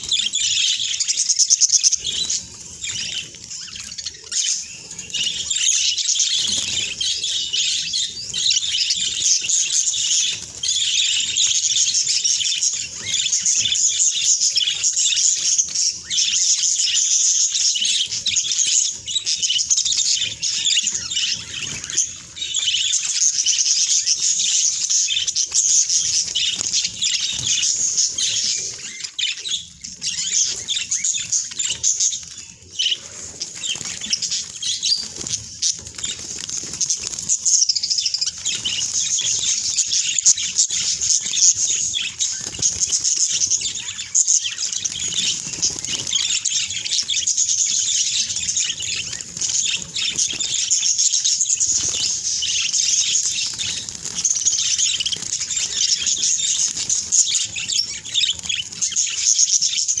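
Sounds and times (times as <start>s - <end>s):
wings fluttering: 0.0s - 16.3s, 17.5s - 59.9s
budgerigars chattering: 0.0s - 60.0s.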